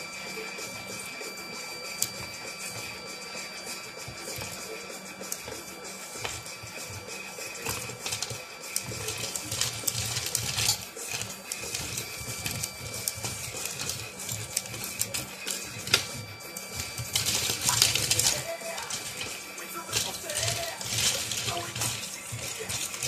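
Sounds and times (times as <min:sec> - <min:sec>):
toy motors and gears whirring: 0:00.0 - 0:23.0.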